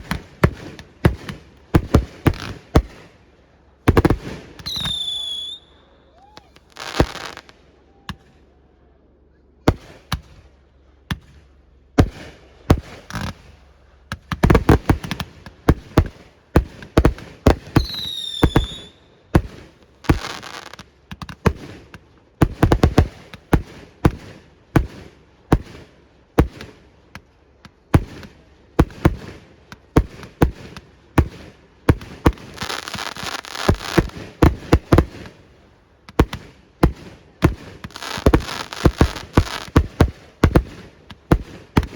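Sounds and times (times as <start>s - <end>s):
firework shells bursting: 0.0s - 3.2s, 3.9s - 5.7s, 6.4s - 7.5s, 11.1s - 41.9s
firework crackling: 0.0s - 3.3s, 3.9s - 8.4s, 11.2s - 41.9s
whistling firework: 3.9s - 8.6s, 11.3s - 41.9s.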